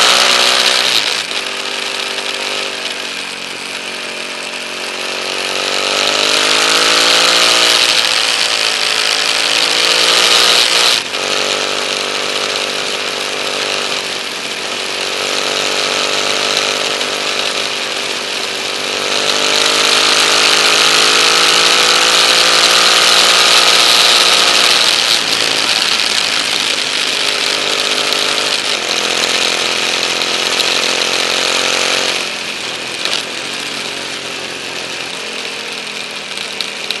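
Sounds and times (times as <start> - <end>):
motorcycle engine: 0.0 - 37.0.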